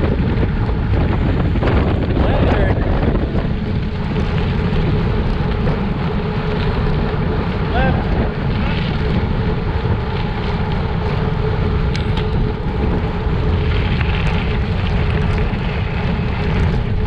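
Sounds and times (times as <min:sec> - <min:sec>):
tyres rolling on gravel: 0:00.0 - 0:17.0
wind rushing over microphone: 0:00.0 - 0:17.0.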